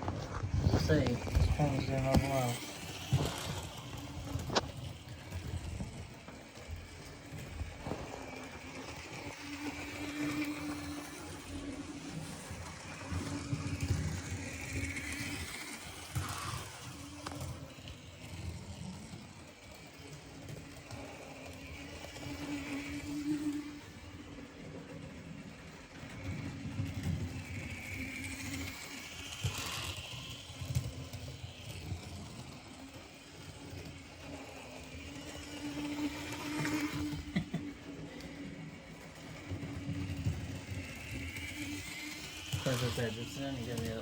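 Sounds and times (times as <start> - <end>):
model train motor humming: 0.0 - 44.0
wheels clattering on rail joints: 0.0 - 44.0.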